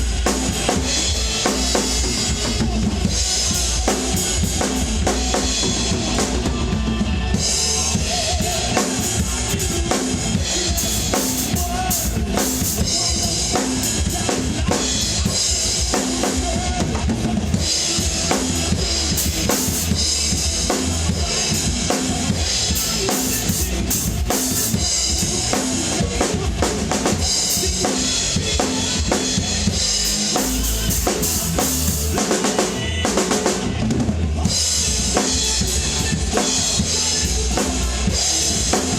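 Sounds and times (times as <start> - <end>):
drum kit playing: 0.0 - 38.9
hard rock song: 0.0 - 38.9.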